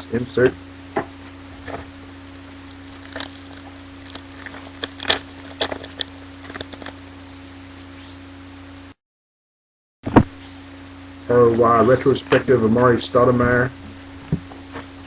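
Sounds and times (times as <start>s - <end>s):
low electrical hum: 0.0s - 9.0s, 10.1s - 15.0s.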